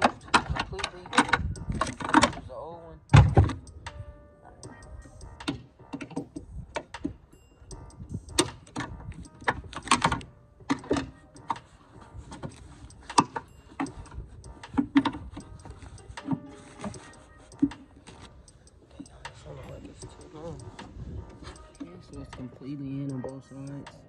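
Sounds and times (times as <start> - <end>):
clicks and metal knocks: 0.0 - 2.5, 3.1 - 4.0, 4.7 - 22.4.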